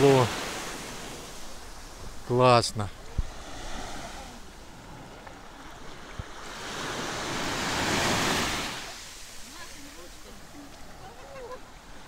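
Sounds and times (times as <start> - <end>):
waves washing up a sandy shore: 0.0 - 12.0.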